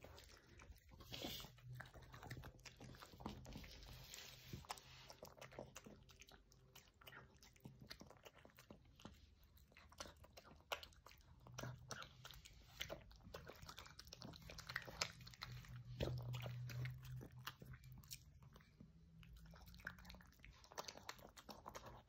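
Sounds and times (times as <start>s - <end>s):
dog chewing and smacking: 0.0s - 22.0s.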